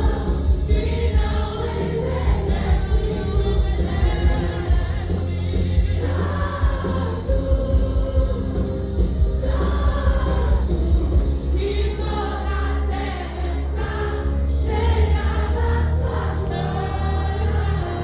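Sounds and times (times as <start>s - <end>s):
choir singing held notes: 0.0s - 18.0s
steady low bass: 0.0s - 18.0s.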